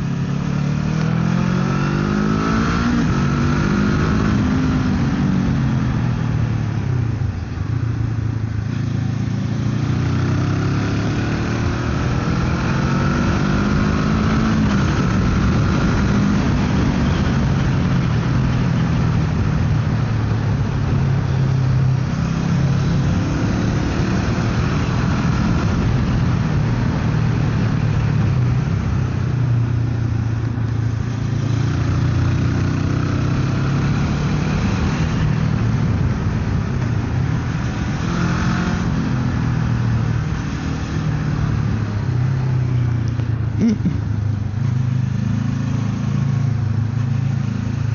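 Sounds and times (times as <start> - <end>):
motorcycle engine running: 0.0 - 47.9
wind and road noise: 0.0 - 47.9.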